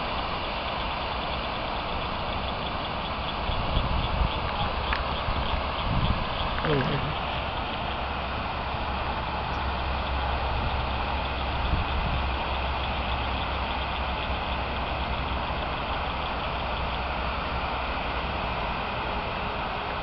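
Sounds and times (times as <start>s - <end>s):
fountain jets spraying: 0.0s - 20.0s.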